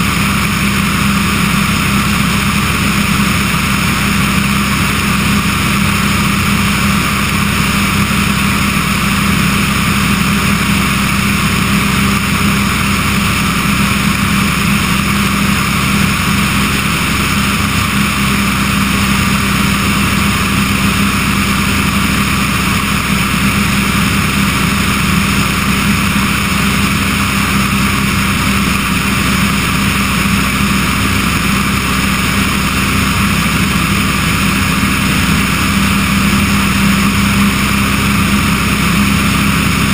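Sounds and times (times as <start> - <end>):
aircraft engine and propeller drone: 0.0 - 39.9
rushing air: 0.0 - 39.9.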